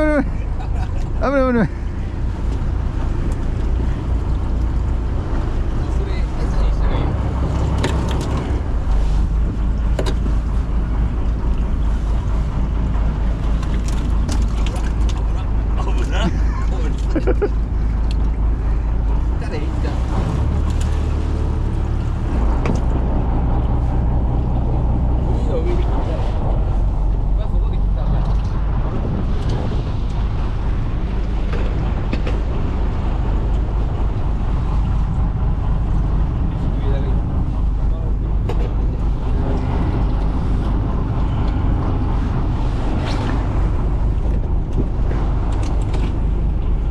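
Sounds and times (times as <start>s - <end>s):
sea noise: 0.0s - 46.9s
wind buffeting microphone: 0.0s - 46.9s.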